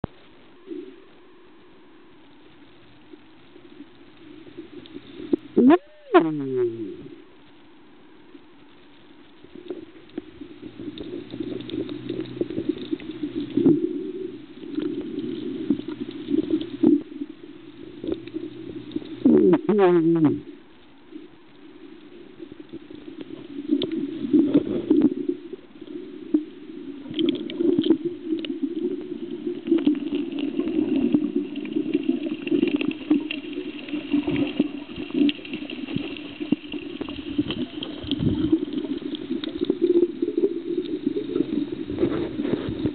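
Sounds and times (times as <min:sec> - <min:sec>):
muffled underwater rumble: 0:00.0 - 0:42.9
water bubbling: 0:04.2 - 0:07.3, 0:09.5 - 0:20.6, 0:21.6 - 0:42.9.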